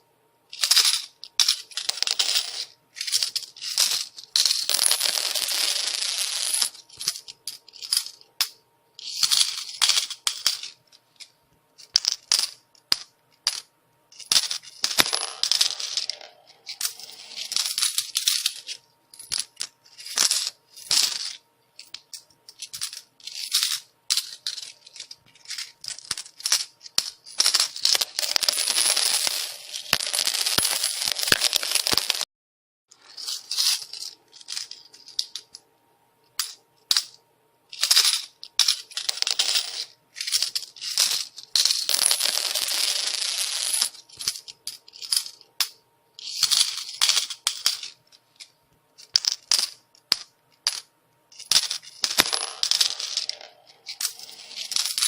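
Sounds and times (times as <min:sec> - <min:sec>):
coins clinking on hard surface: 0:00.5 - 0:32.3, 0:33.0 - 0:35.6, 0:36.3 - 0:55.0.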